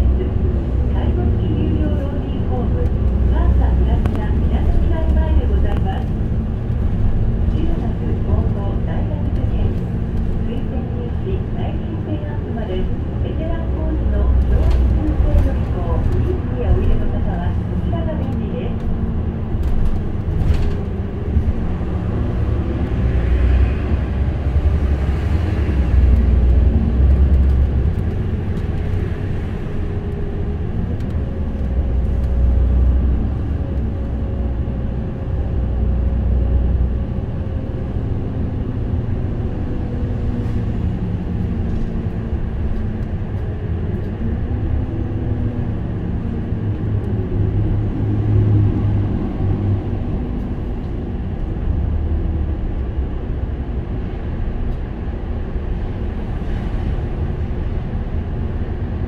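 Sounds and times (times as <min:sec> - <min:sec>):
bus engine drone: 0:00.0 - 0:59.0
road and tyre noise: 0:00.0 - 0:59.0.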